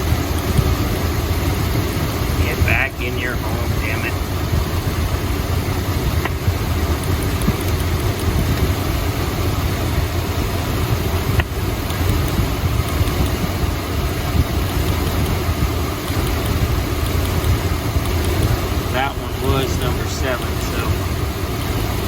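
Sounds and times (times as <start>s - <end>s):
car engine idling: 0.1s - 22.0s.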